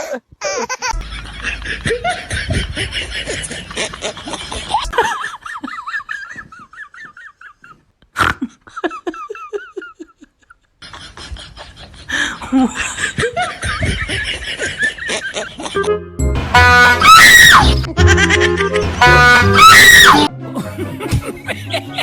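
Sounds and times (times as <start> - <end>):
high-pitched laughter: 0.0 - 7.8, 8.4 - 15.9, 16.9 - 22.0.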